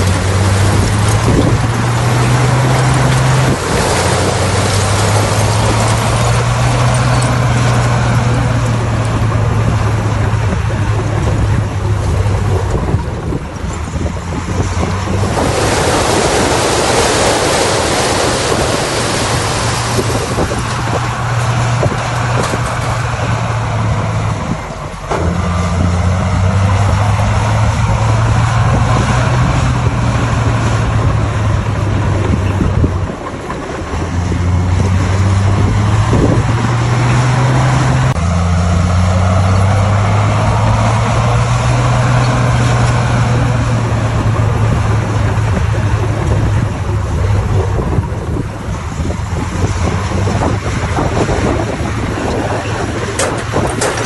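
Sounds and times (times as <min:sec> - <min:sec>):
bulldozer diesel engine: 0:00.0 - 0:54.0
rushing grinding noise: 0:00.0 - 0:54.0.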